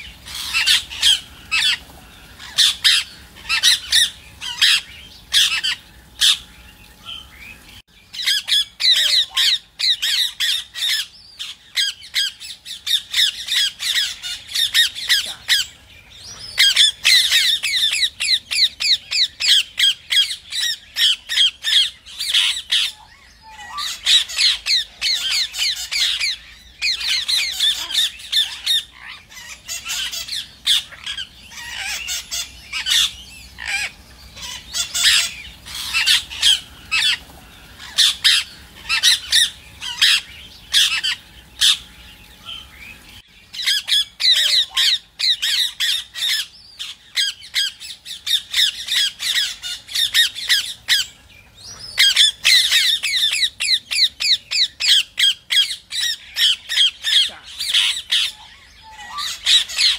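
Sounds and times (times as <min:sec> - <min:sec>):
parakeets calling: 0:00.0 - 0:59.9.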